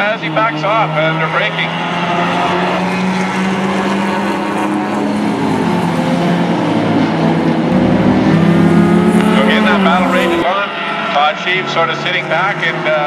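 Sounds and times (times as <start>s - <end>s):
race car engine: 0.0s - 13.0s.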